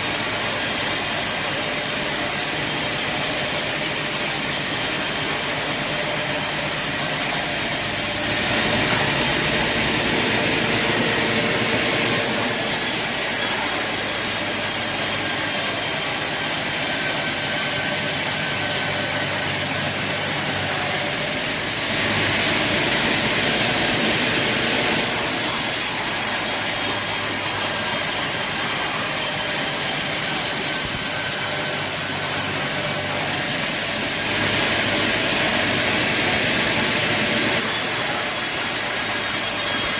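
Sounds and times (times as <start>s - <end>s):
machinery running: 0.0s - 39.6s
sawmill saw cutting wood: 0.0s - 39.9s.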